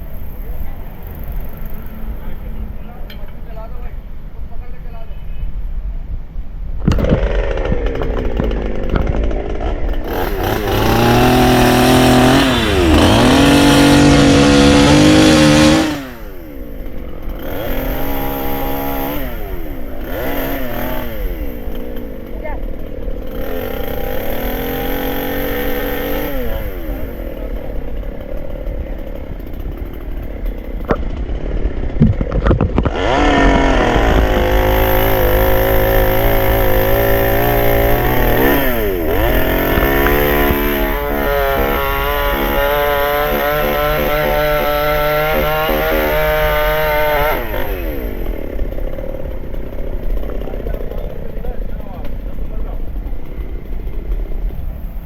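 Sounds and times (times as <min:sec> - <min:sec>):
chainsaw revving and cutting: 0:06.8 - 0:55.0.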